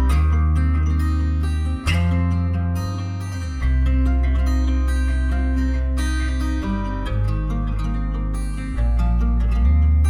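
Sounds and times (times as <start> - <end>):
plucked guitar music: 0.0 - 10.0
steady bass: 0.0 - 10.0.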